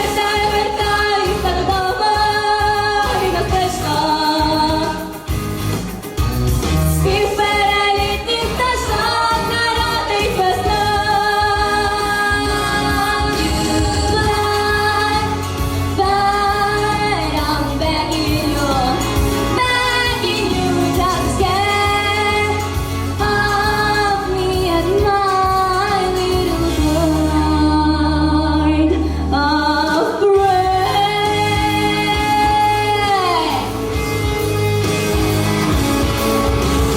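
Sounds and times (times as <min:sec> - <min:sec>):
woman singing with vibrato: 0:00.0 - 0:05.2, 0:07.0 - 0:33.8
instrumental accompaniment: 0:00.0 - 0:36.9.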